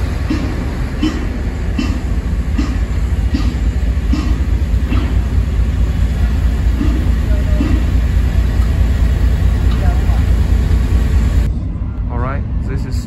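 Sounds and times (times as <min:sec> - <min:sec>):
train wheels clacking: 0:00.0 - 0:11.5
train low rumble: 0:00.0 - 0:13.0.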